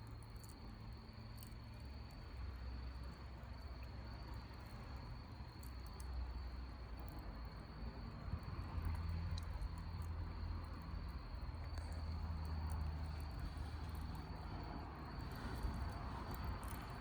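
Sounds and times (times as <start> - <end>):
crickets trilling: 0.0 - 17.0
campfire crackling: 0.4 - 17.0.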